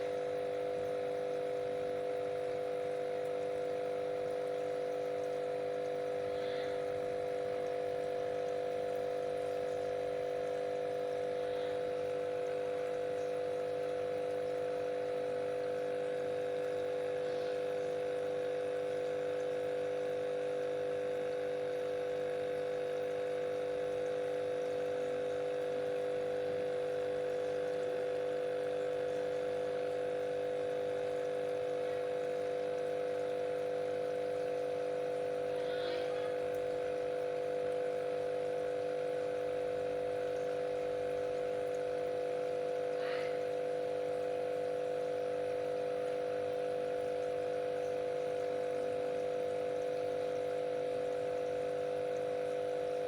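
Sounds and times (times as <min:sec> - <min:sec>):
aquarium pump humming: 0:00.0 - 0:53.0
faint trickling water: 0:00.0 - 0:53.0
soft water drips: 0:00.0 - 0:53.0.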